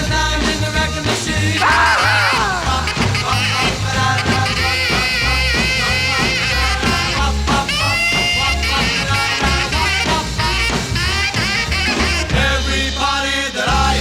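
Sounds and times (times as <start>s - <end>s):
person singing: 0.0s - 10.7s, 12.3s - 14.0s
rock and roll music: 0.0s - 14.0s.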